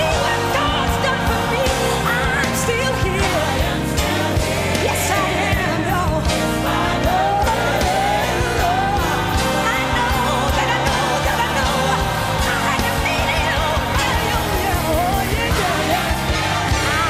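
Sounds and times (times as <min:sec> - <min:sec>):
band with steady beat: 0:00.0 - 0:17.0.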